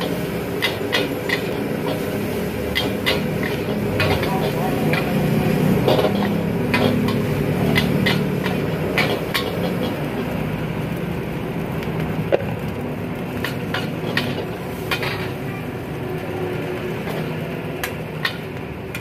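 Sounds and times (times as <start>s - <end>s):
ladle clanking and scraping wok: 0.0s - 10.8s, 12.2s - 19.0s
gas burner roaring: 0.0s - 19.0s.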